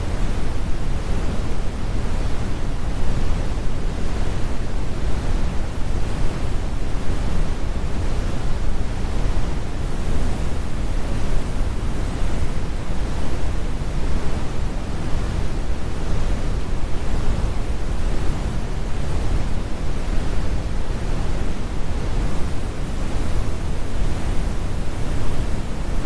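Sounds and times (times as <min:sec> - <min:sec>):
brown noise rumble: 0:00.0 - 0:26.0.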